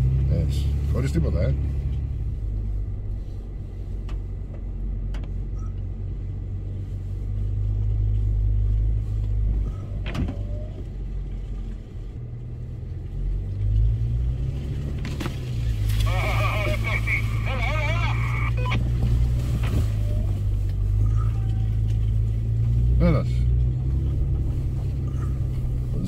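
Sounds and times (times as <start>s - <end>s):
off-road vehicle engine at low revs: 0.0s - 26.0s.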